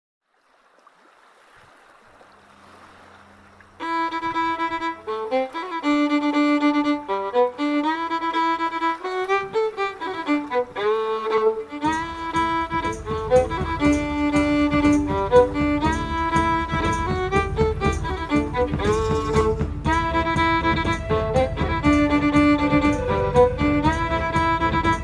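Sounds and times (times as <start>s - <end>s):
soft hiss: 0.4s - 25.0s
violin melody: 3.8s - 25.0s.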